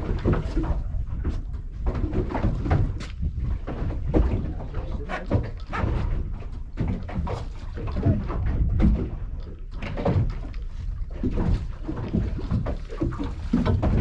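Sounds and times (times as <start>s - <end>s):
knocks and thumps: 0.0s - 10.5s, 11.2s - 14.0s
water splashing: 0.0s - 14.0s.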